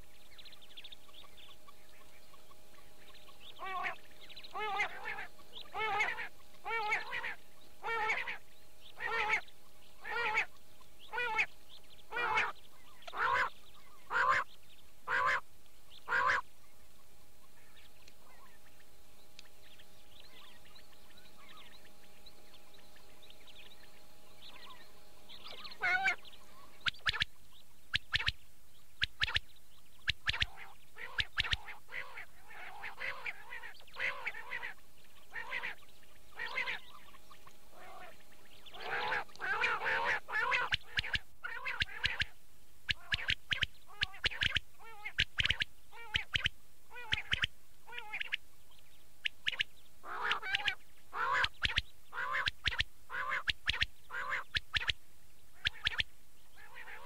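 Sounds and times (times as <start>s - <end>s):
quail calling: 0.0s - 16.5s, 17.4s - 28.4s, 29.0s - 48.4s, 49.2s - 57.0s
faint steady hum: 0.0s - 57.0s.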